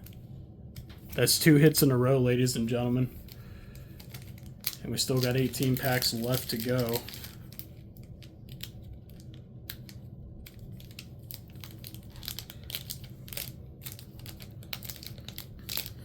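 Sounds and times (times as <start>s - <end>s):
low steady hum: 0.0s - 16.0s
foil wrapper crinkling: 2.5s - 16.0s.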